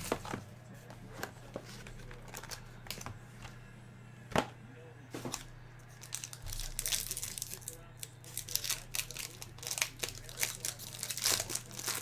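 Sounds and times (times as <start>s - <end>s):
cards clicking and rustling: 0.0s - 3.5s, 5.2s - 12.0s
low electrical hum: 0.0s - 12.0s.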